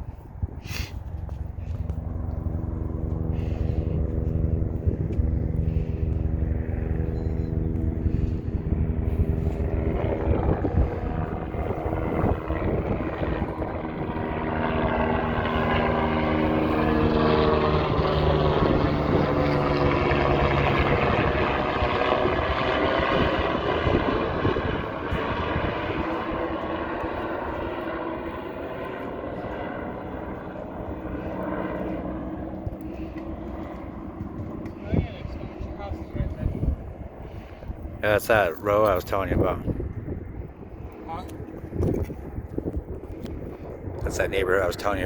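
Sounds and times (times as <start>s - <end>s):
propeller aircraft engine drone: 0.0s - 45.0s.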